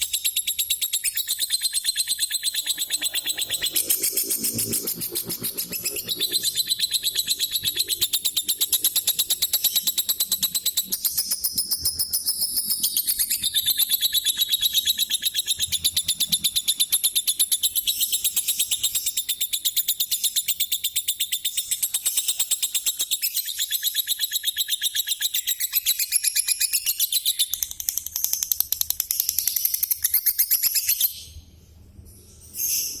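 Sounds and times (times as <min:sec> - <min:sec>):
lovebird chattering: 0:00.0 - 0:31.1.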